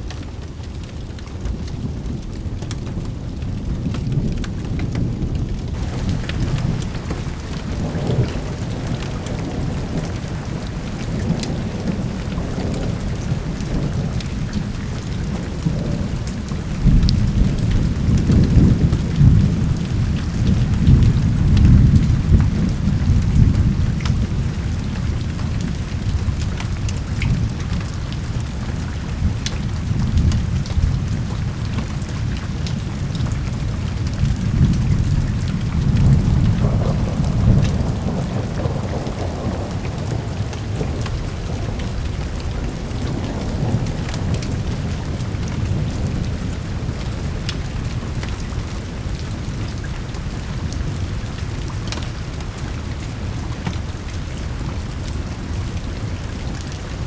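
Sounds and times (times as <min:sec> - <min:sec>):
rain hissing and pattering: 0:00.0 - 0:57.0
low roll of thunder: 0:01.4 - 0:57.0.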